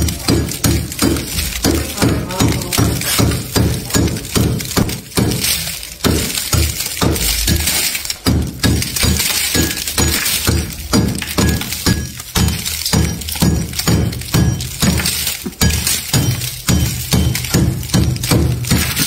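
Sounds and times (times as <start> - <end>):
tool scraping freezer frost: 0.0 - 19.0.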